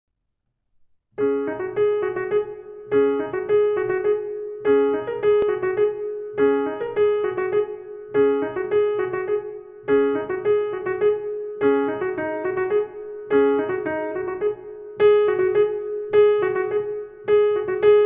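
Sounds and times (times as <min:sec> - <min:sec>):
solo piano: 0:01.2 - 0:18.0.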